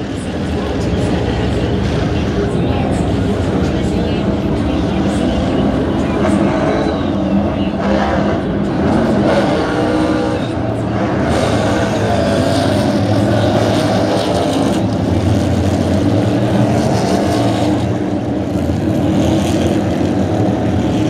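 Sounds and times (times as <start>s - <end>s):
many race car engines droning: 0.0s - 21.0s.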